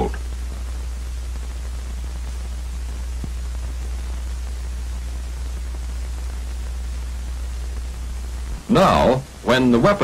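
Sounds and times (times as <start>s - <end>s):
film soundtrack hiss and hum: 0.0s - 10.0s.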